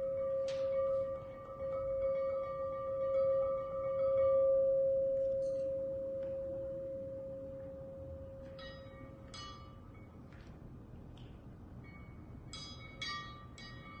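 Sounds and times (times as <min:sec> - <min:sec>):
struck metal instrument ringing: 0:00.0 - 0:10.2, 0:11.8 - 0:14.0
high bright ringing strikes: 0:00.0 - 0:10.4, 0:11.8 - 0:14.0.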